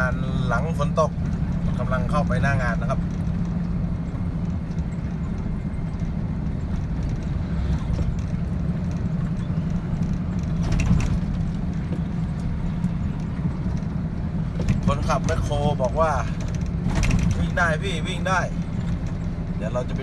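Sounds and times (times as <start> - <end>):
truck engine drone: 0.0 - 20.0.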